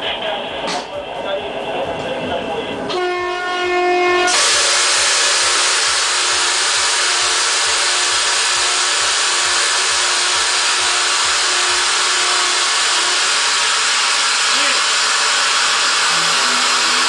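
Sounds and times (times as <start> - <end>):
train wheels rushing on rails: 0.0 - 17.0.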